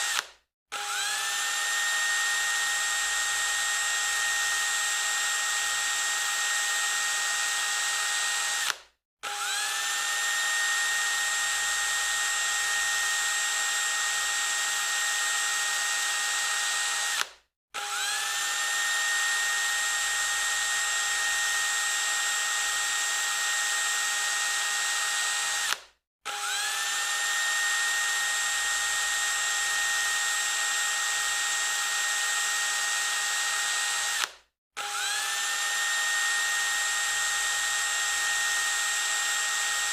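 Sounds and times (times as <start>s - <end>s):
electric drill whining: 0.0s - 39.9s.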